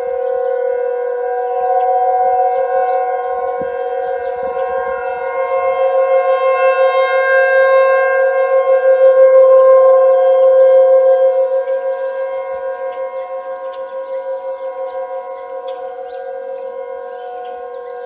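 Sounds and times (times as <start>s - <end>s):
warning siren steady tone: 0.0s - 18.0s.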